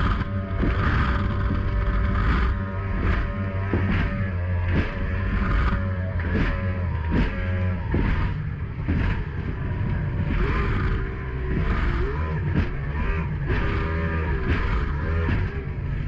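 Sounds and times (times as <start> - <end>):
hull thumping on waves: 0.0 - 16.0
outboard engine running hard: 0.0 - 16.0.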